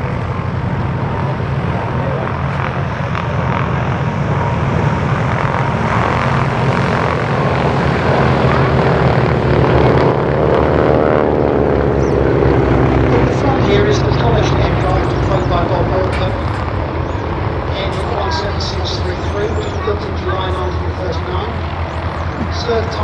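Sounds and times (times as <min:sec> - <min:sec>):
propeller aircraft engines droning: 0:00.0 - 0:23.0.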